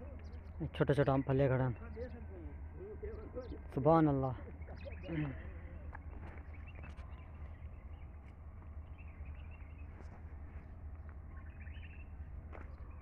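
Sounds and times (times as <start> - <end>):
faint bird chirps: 0.0 - 10.3, 11.1 - 13.0
low rumble: 0.0 - 13.0.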